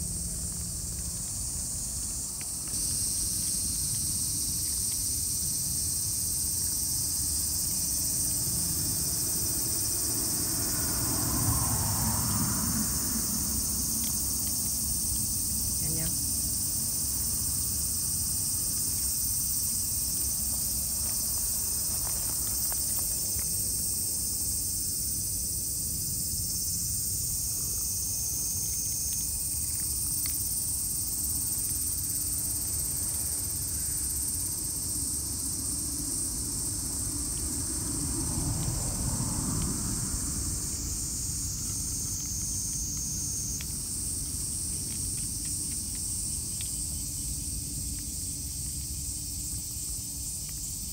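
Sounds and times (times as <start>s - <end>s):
insects chorus: 0.0s - 50.9s.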